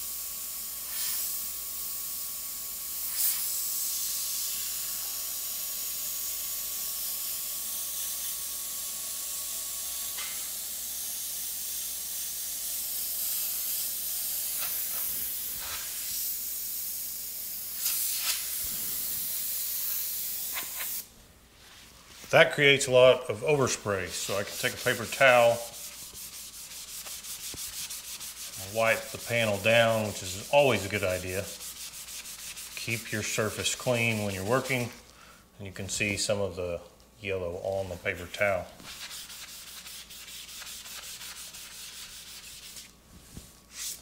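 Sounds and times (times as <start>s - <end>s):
airbrush spraying hiss: 0.0s - 22.6s, 23.5s - 35.0s, 38.0s - 43.0s.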